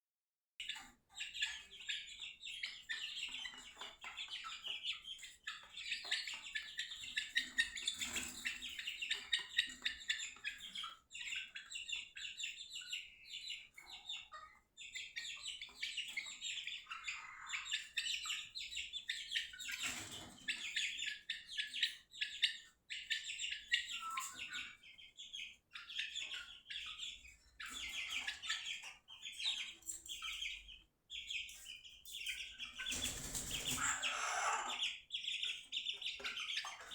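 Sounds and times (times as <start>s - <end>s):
chicks peeping: 0.6s - 36.9s.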